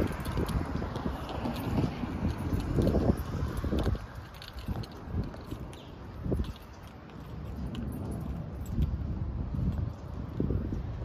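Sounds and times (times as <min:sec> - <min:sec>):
faint footsteps: 0:00.0 - 0:11.0
wind buffeting microphone: 0:00.0 - 0:11.0.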